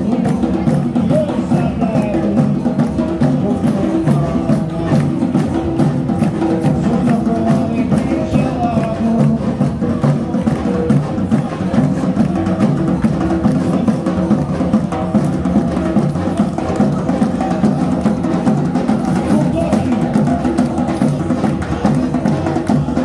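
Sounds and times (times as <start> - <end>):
samba drums and hand percussion: 0.0 - 23.0.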